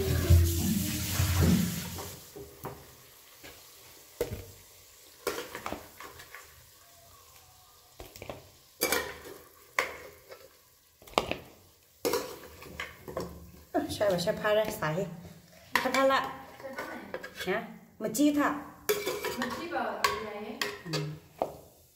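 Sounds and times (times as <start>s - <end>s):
food sizzling in a pan: 0.0s - 21.9s.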